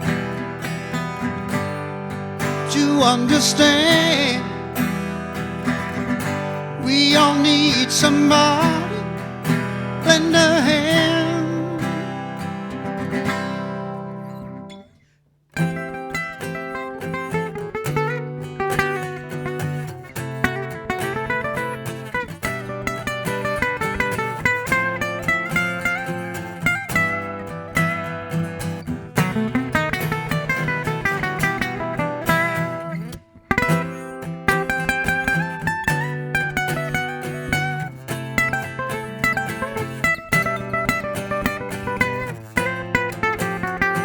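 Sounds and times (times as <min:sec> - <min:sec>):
acoustic guitar playing: 0:00.0 - 0:44.0.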